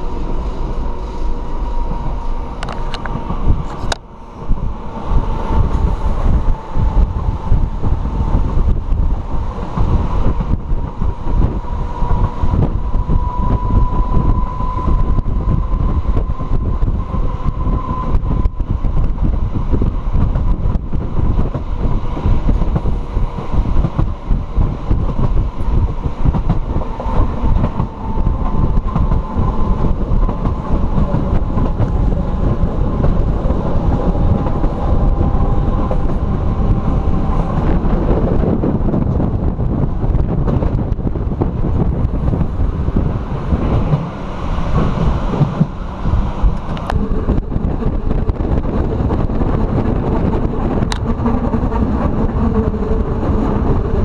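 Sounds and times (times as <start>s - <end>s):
high steady train whine: 0.0s - 54.0s
train wheels rumbling: 0.0s - 54.0s
wind on microphone: 0.0s - 54.0s.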